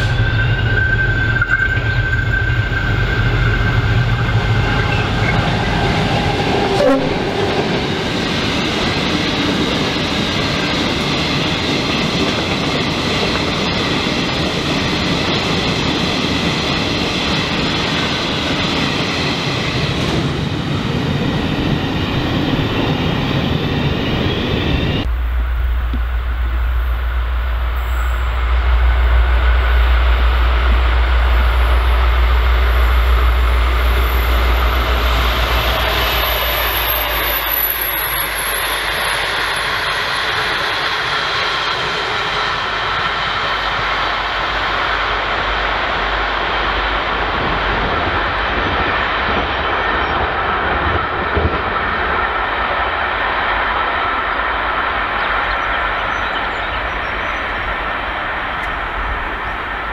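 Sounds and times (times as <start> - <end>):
diesel locomotive engine rumble: 0.0 - 59.9
train wheels rumbling on rails: 0.0 - 59.9.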